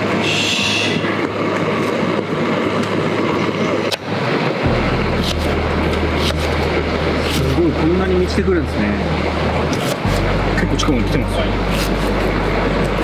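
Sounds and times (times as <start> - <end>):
low steady hum: 0.0 - 13.0
sea surf: 0.0 - 13.0
wind: 0.0 - 13.0.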